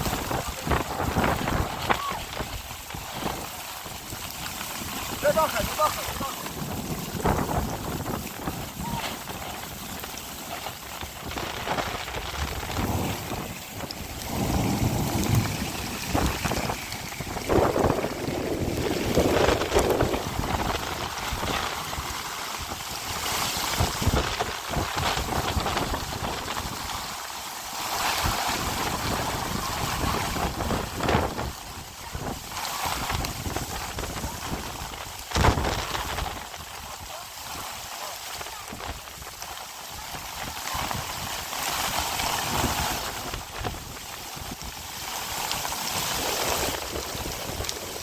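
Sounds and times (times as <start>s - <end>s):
rain falling: 0.0s - 48.0s
wind noise on microphone: 0.0s - 48.0s.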